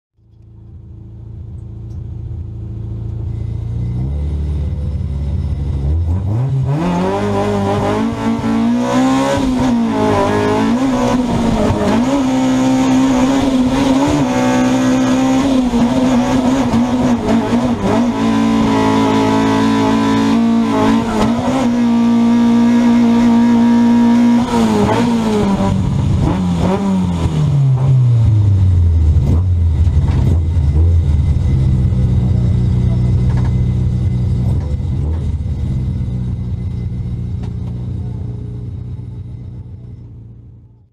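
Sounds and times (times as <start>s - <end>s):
car engine revving: 0.6s - 40.8s.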